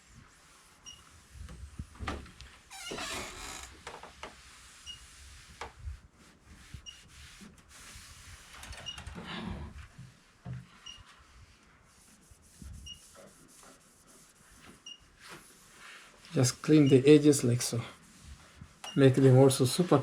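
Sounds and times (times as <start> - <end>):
cloth rubbing on tv edges: 0.0 - 8.6, 11.0 - 20.0.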